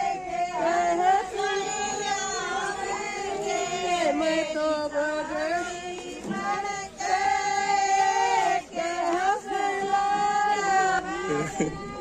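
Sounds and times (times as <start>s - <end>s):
women singing folk song: 0.0s - 12.0s.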